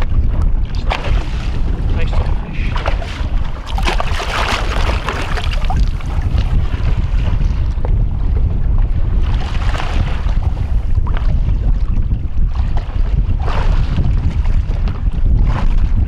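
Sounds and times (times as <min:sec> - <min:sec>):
waves slapping against boat: 0:00.0 - 0:16.0
wind buffeting microphone: 0:00.0 - 0:16.0.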